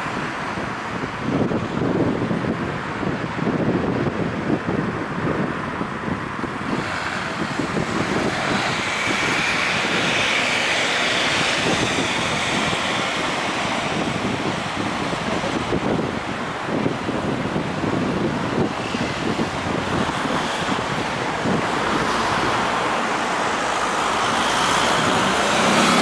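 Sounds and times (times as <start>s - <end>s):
vehicle passing on road: 0.0s - 26.0s
wind buffeting microphone: 0.0s - 26.0s.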